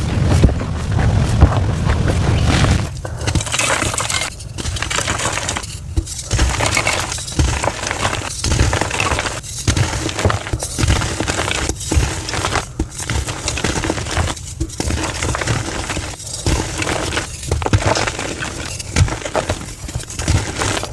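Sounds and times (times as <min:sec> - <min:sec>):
chalk crunching and crumbling: 0:00.0 - 0:20.9.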